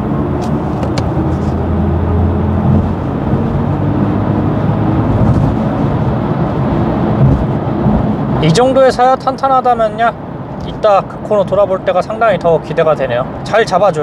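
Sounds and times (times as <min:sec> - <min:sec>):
tyre and road rush: 0:00.0 - 0:14.0.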